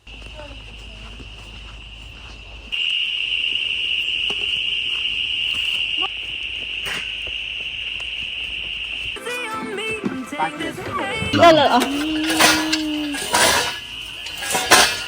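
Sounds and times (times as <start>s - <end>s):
high-pitched insect chorus buzzing: 0.0s - 10.7s, 11.3s - 15.0s.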